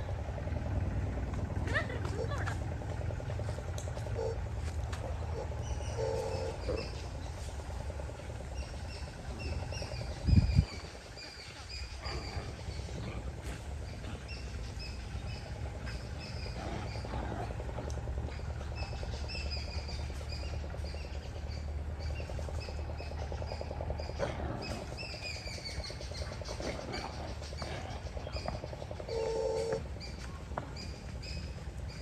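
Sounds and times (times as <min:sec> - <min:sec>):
birds chirping: 0:00.0 - 0:32.0
low rumble: 0:00.0 - 0:32.0.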